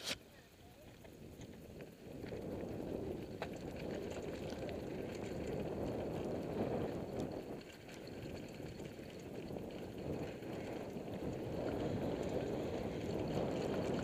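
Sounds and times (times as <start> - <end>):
bike tyres on gravel trail: 0.0 - 14.0
bike clicks and rattles: 0.8 - 14.0.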